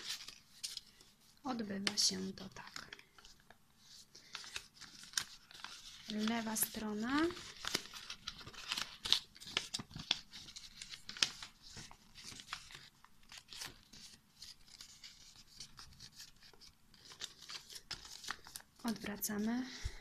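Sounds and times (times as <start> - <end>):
paper being folded and creased: 0.0 - 20.0.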